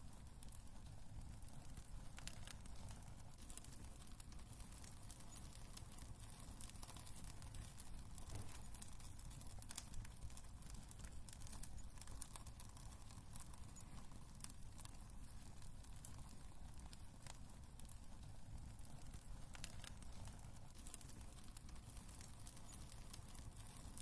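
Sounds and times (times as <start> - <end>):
fire crackles and pops: 0.0 - 24.0
wood fire burning: 0.0 - 24.0.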